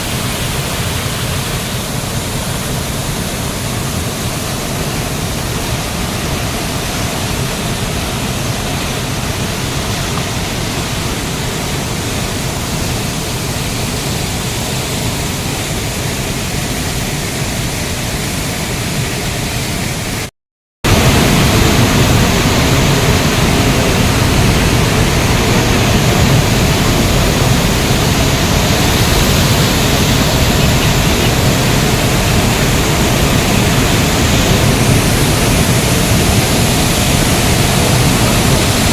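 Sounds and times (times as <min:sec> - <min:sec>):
waterfall rushing: 0:00.0 - 0:20.3, 0:20.9 - 0:38.9.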